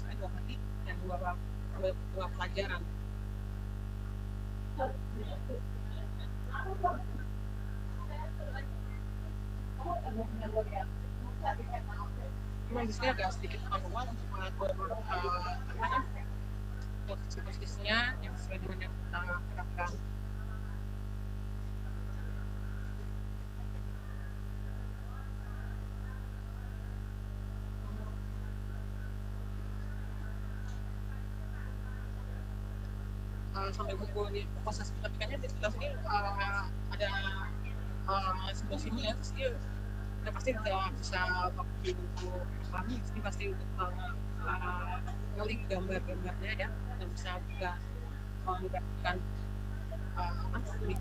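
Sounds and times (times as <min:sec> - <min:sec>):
electrical mains hum: 0:00.0 - 0:51.0.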